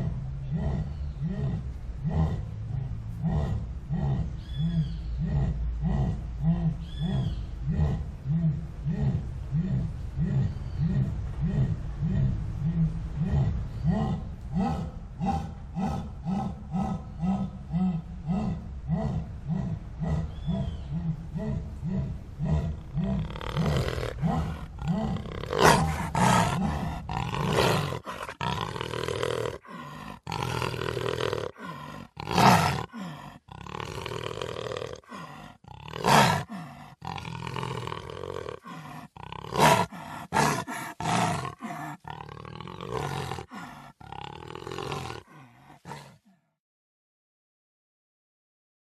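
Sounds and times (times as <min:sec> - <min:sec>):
jaguar grunting: 0:00.0 - 0:46.4
jaguar roaring and snarling: 0:00.0 - 0:46.4.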